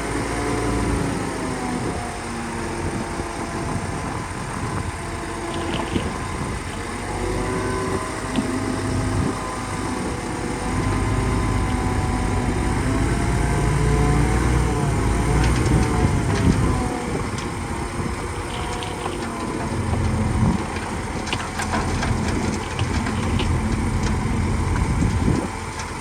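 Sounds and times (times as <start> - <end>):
bulldozer diesel engine: 0.0 - 26.0
heavy low rumble: 2.9 - 26.0.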